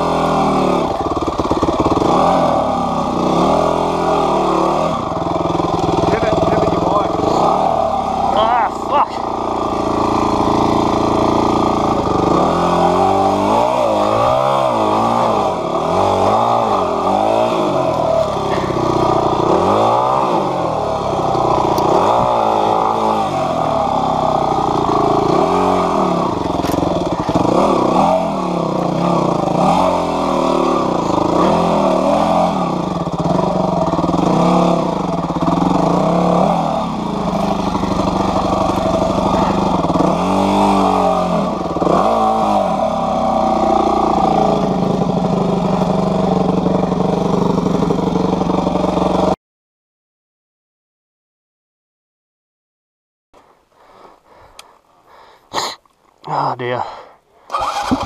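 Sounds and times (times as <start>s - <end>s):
motorcycle engine revving: 0.0s - 49.4s, 57.5s - 58.0s.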